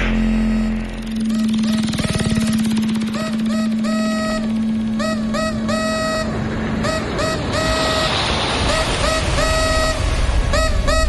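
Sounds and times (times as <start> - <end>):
high-pitched beeps: 0.0 - 10.1
steady low hum: 0.0 - 11.0.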